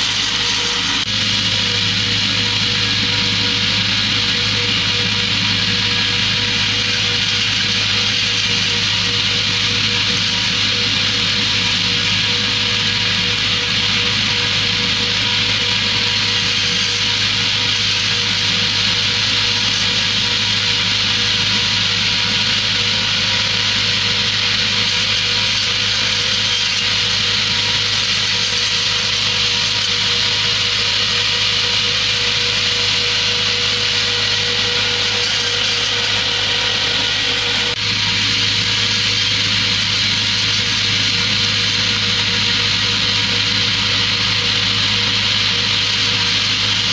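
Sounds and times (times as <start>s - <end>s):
circular saw blades cutting branches: 0.0s - 46.9s
tractor engine: 0.0s - 46.9s.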